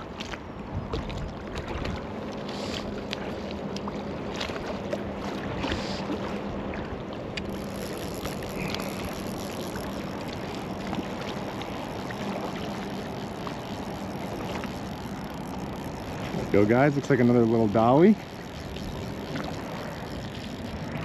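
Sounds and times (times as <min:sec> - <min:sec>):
low steady hum: 0:00.0 - 0:21.0
water lapping against float tube: 0:00.0 - 0:21.0.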